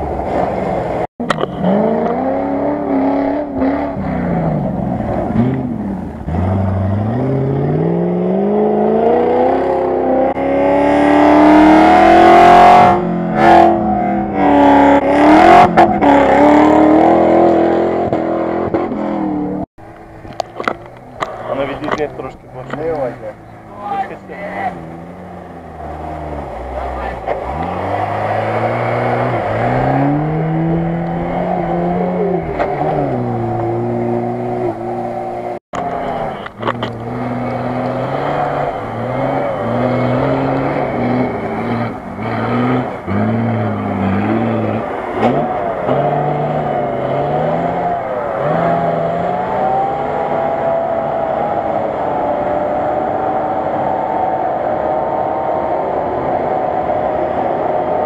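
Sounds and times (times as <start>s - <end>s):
off-road engines revving: 0.0s - 58.0s.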